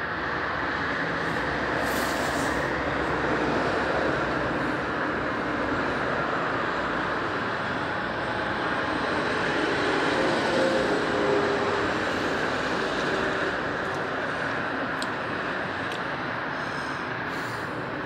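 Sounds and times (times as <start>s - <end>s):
motorway traffic roar: 0.0s - 18.0s.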